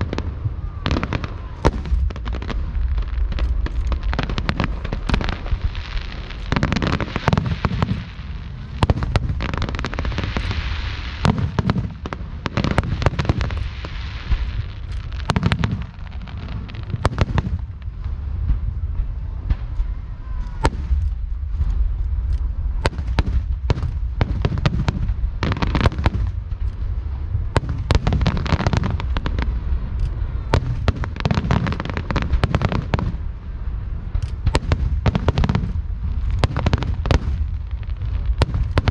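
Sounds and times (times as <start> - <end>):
crackling hiss: 0.0 - 38.9
fireworks bursting: 0.0 - 38.9
low rumble: 0.0 - 38.9.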